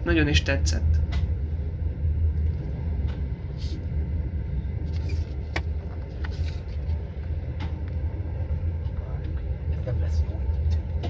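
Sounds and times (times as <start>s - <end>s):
train coach rumbling: 0.0s - 11.0s.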